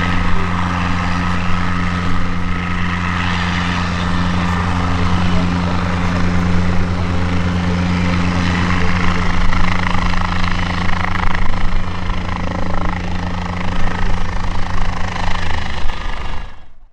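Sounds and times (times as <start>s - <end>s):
helicopter rotor beating: 0.0s - 16.8s
piston engine hum: 0.0s - 16.9s.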